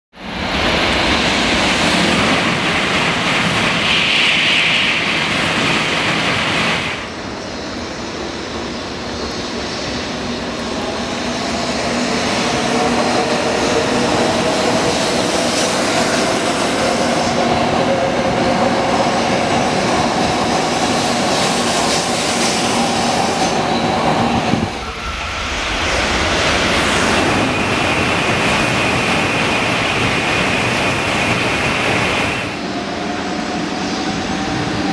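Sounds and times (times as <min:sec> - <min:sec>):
train rushing past: 0:00.2 - 0:34.9.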